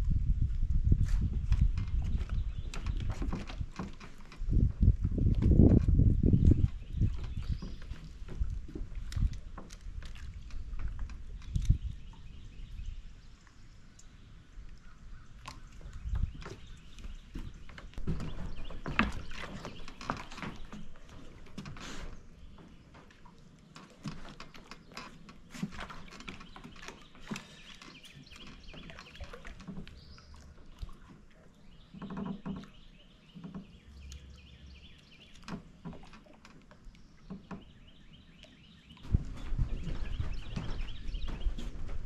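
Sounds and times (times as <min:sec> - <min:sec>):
clicks and knocks on wooden dock: 0:01.0 - 0:12.8, 0:15.1 - 0:42.0.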